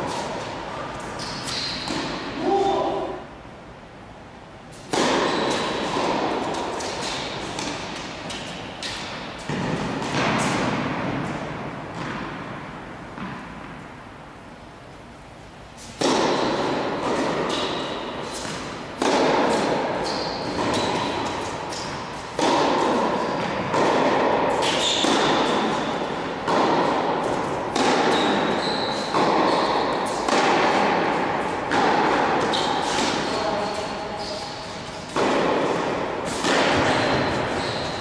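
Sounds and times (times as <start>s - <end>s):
tennis ball hits echoing: 1.2s - 2.6s, 4.9s - 13.9s, 16.0s - 38.0s.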